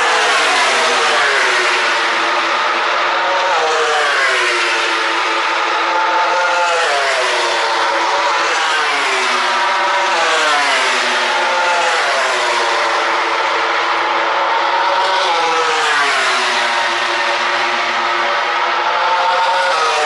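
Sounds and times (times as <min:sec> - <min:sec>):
racing motorcycles at high revs: 0:00.0 - 0:20.0.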